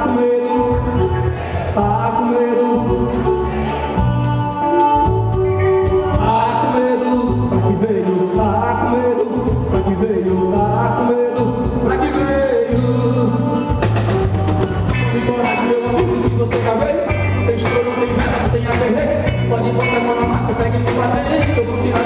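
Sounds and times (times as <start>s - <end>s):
bass: 0.0s - 22.0s
drums: 0.0s - 22.0s
guitars: 0.0s - 22.0s.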